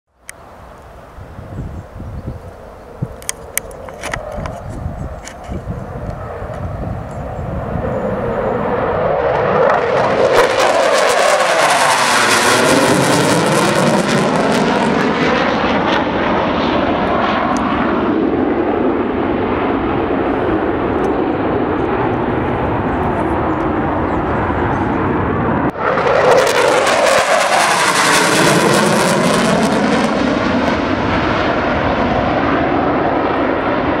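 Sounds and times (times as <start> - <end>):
jet flying past overhead: 0.3 - 34.0.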